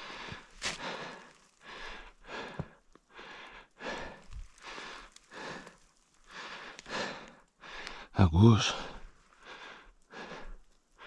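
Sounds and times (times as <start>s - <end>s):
person breathing hard: 0.0s - 11.0s.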